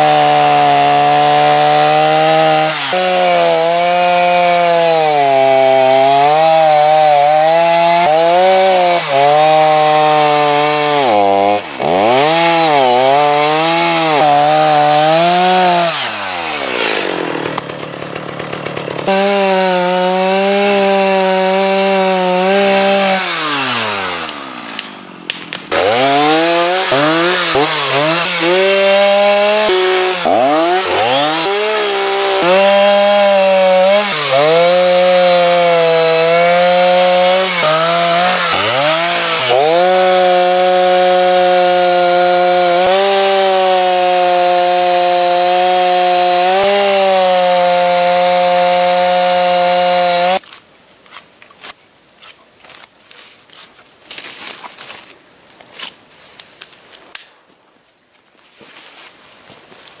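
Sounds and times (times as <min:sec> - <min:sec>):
chainsaw cutting tree: 0:00.0 - 0:50.4
insects chirping: 0:08.4 - 1:00.0.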